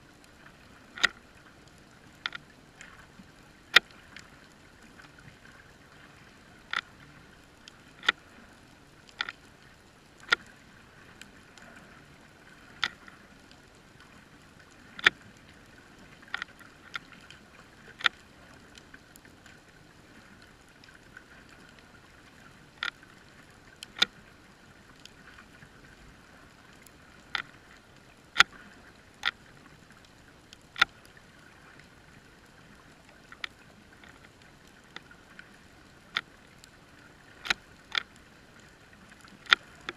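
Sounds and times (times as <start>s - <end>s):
faint steady hiss: 0.0s - 39.9s
sharp underwater clicks: 0.2s - 5.8s, 6.5s - 11.8s, 12.4s - 19.6s, 22.4s - 24.2s, 24.9s - 31.9s, 32.7s - 39.9s.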